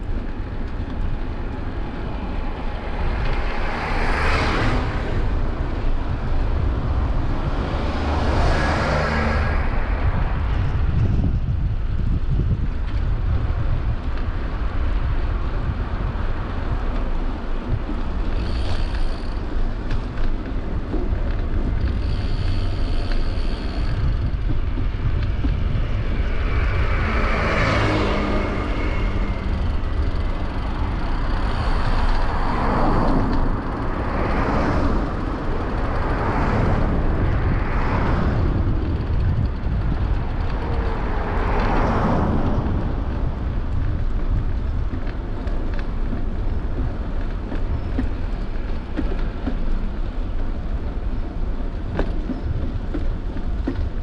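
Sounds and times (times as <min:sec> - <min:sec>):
cars passing: 0:00.0 - 0:54.0
wind rumble on microphone: 0:00.0 - 0:54.0.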